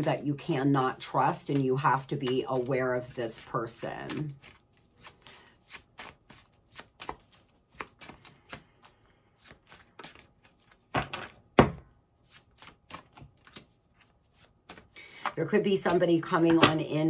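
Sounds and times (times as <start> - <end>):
cards being shuffled: 0.6 - 11.5, 12.2 - 16.8.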